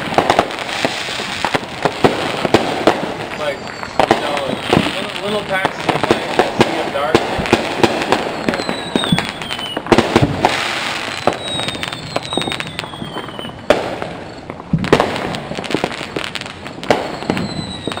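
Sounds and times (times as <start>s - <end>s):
firework whistle gliding down: 0.0s - 18.0s
fireworks popping and banging: 0.0s - 18.0s.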